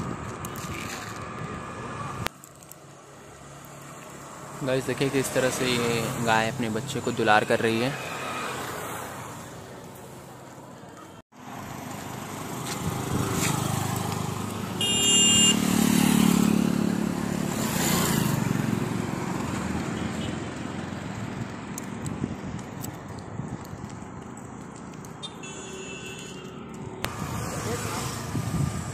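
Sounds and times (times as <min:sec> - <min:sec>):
vehicles passing on road: 0:00.0 - 0:28.9.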